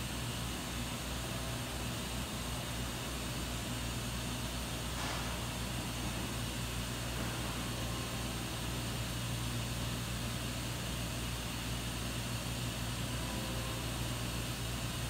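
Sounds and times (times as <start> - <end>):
fans hissing: 0.0 - 15.0
machine electrical hum: 0.0 - 15.0.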